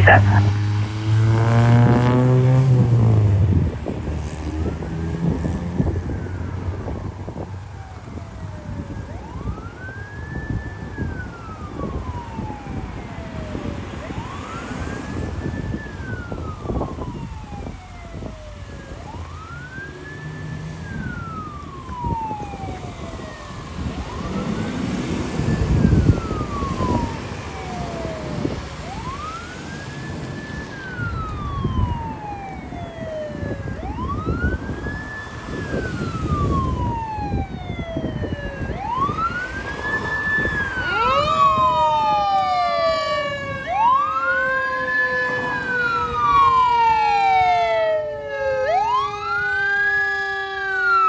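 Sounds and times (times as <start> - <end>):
emergency siren wailing: 0.0 - 51.0
engine and road rumble: 0.0 - 51.0.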